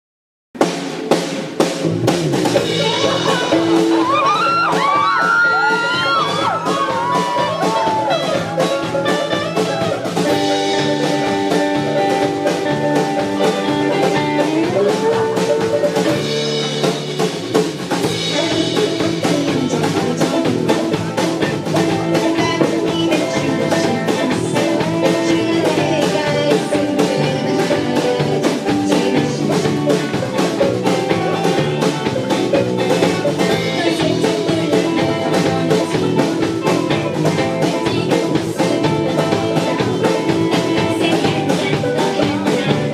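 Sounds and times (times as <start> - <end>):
drum kit beat: 0.6 - 42.9
live rock band playing: 0.6 - 42.9.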